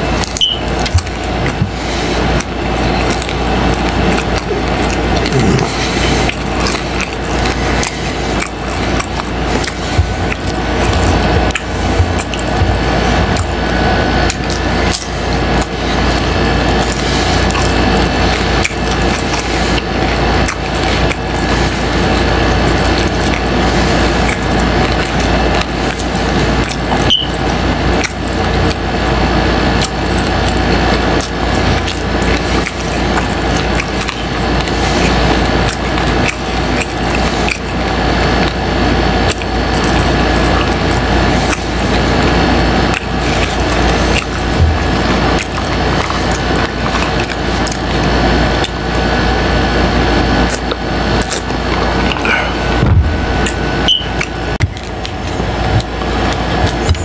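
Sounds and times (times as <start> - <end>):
crunchy chewing: 0.0 - 57.0
wet mouth sounds: 0.0 - 57.0.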